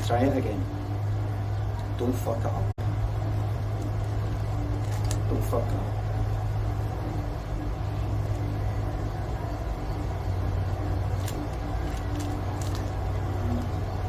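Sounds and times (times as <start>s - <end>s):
low rumbling hum: 0.0s - 14.0s.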